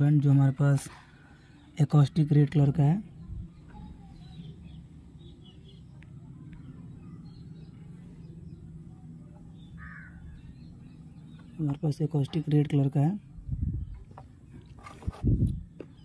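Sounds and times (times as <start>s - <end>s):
distant bird chirps: 0.0s - 16.0s
steady low hum: 0.0s - 16.0s.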